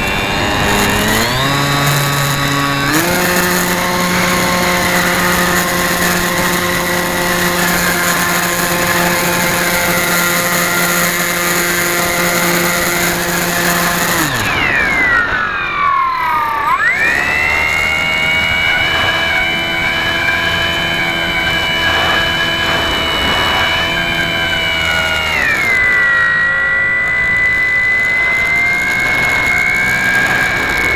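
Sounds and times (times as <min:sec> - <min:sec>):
model airplane motor whine: 0:00.0 - 0:30.9.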